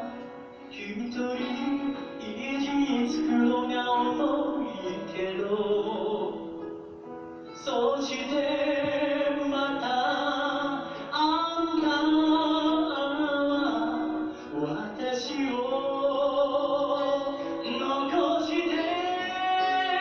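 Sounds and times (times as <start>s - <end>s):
acoustic guitar: 0.0s - 20.0s
man singing: 0.0s - 20.0s.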